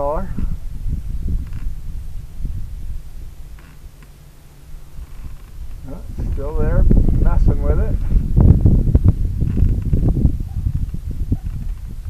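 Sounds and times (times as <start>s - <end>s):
crackling and rustling on microphone: 0.0s - 12.0s
low rumble: 0.0s - 12.0s.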